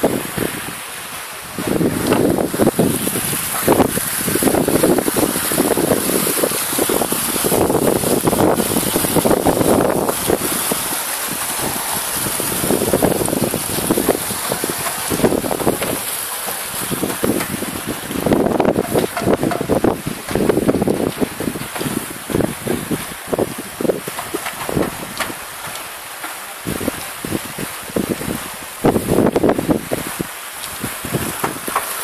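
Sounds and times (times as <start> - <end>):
wind buffeting microphone: 0.0 - 26.0, 26.6 - 32.0
steady high hiss: 0.0 - 32.0.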